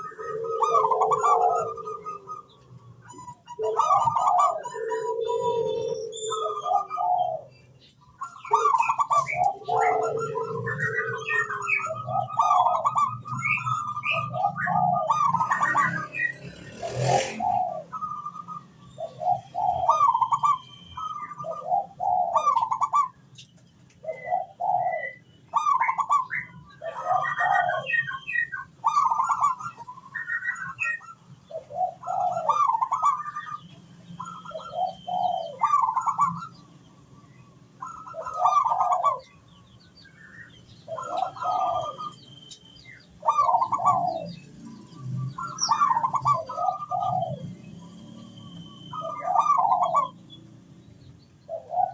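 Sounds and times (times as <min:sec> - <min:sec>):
doves cooing: 0:00.0 - 0:50.7, 0:51.4 - 0:51.9
high bird chirps: 0:00.0 - 0:51.9.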